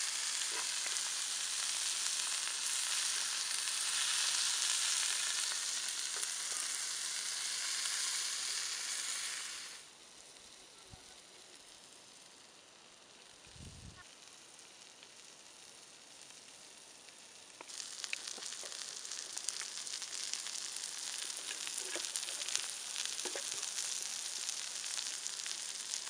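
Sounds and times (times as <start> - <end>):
vegetables sizzling: 0.0 - 26.0.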